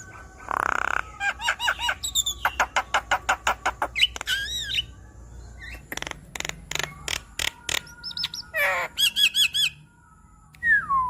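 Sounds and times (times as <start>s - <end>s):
bird singing varied song: 0.0s - 11.0s.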